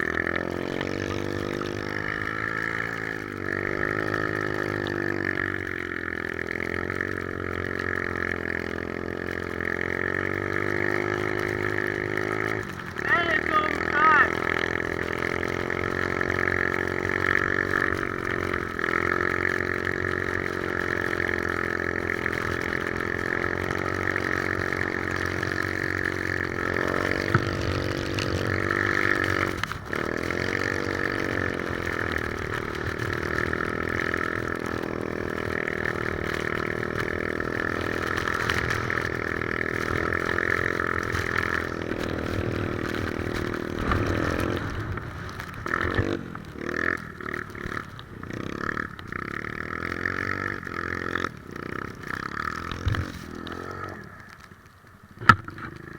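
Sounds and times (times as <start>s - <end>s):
three-wheeler engine running: 0.0s - 55.9s.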